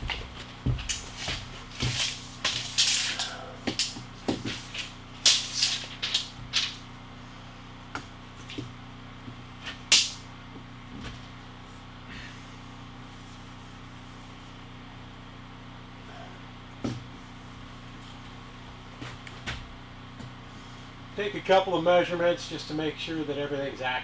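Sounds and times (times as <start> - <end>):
low hum: 0.0 - 23.6.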